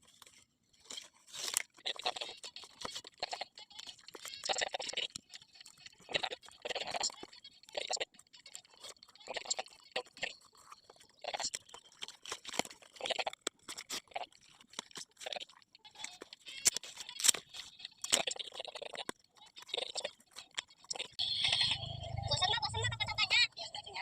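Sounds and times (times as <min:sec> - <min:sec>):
leaf strips crinkling and rustling: 0:00.0 - 0:21.2.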